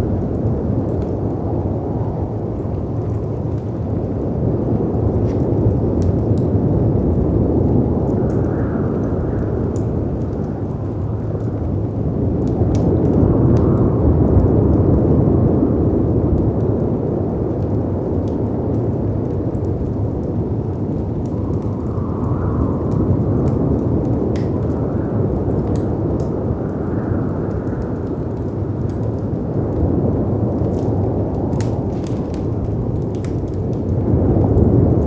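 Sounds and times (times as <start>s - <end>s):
rumble of wind and surf: 0.0s - 35.0s
wind howling: 0.0s - 35.0s
wood fire crackling: 0.0s - 35.0s.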